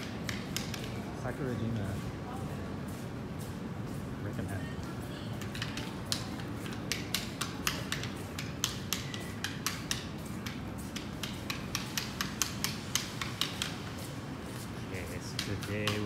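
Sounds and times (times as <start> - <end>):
footsteps on hard pavement: 0.2 - 16.0.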